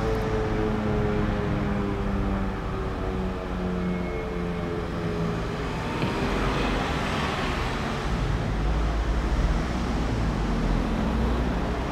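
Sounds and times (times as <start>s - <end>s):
distant road traffic rumble: 0.0s - 11.9s.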